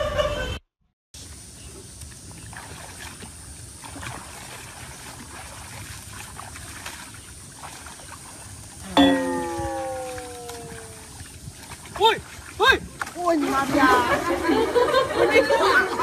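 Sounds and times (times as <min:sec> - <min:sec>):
pond water sloshing and splashing: 0:01.2 - 0:16.0.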